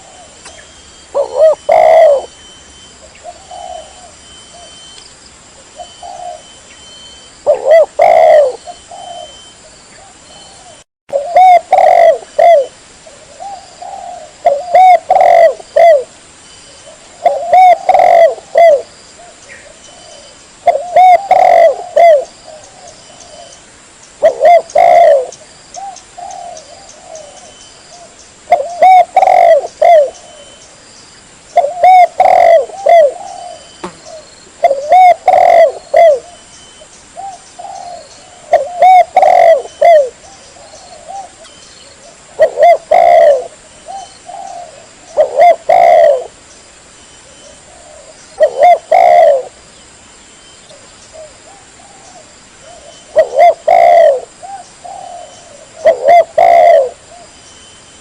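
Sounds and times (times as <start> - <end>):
dove cooing: 0.0 - 2.4, 3.0 - 4.9, 5.6 - 6.6, 7.2 - 16.1, 16.7 - 23.6, 24.2 - 30.6, 31.6 - 36.5, 37.2 - 46.4, 47.2 - 49.6, 50.7 - 57.4.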